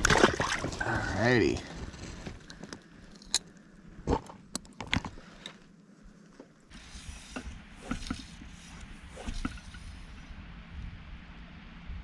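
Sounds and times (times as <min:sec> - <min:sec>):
steady hiss with low rumble: 0:00.0 - 0:12.0.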